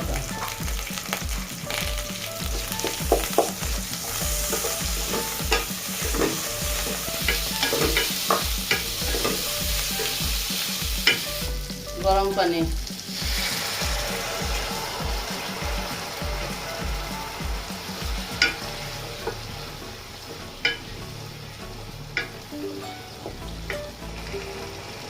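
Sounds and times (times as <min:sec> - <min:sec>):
pastes sizzling in hot oil: 0:00.0 - 0:25.0.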